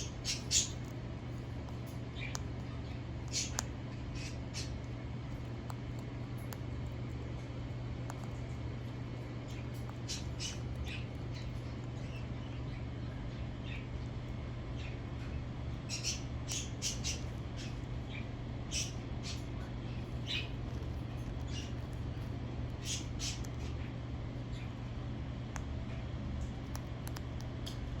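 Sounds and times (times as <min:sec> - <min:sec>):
parrot beak crunching food: 0:00.0 - 0:12.0, 0:16.5 - 0:24.8, 0:25.5 - 0:28.0
steady low hum: 0:00.0 - 0:28.0.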